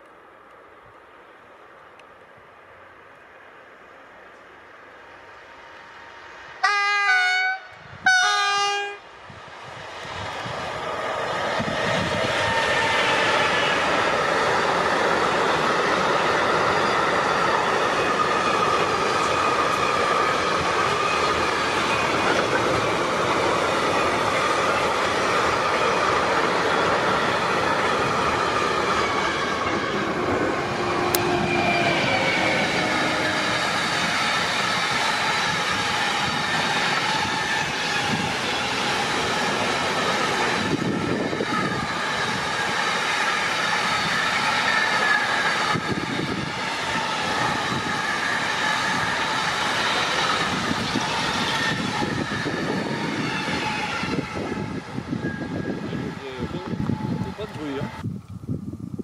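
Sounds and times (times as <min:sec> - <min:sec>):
freight train wheels rumbling: 0:00.0 - 0:59.0
high squealing wheels: 0:10.2 - 0:58.1.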